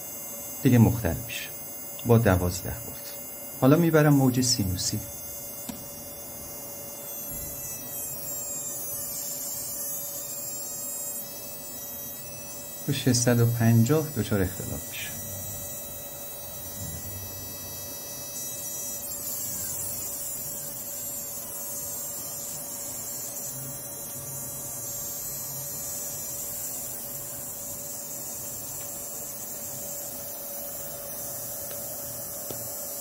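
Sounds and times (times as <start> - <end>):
solenoid buzzing: 0.0 - 33.0.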